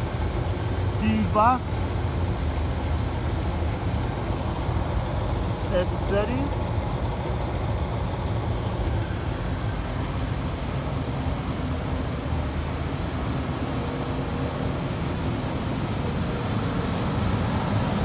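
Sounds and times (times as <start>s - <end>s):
engine idling with misfire: 0.0s - 18.0s.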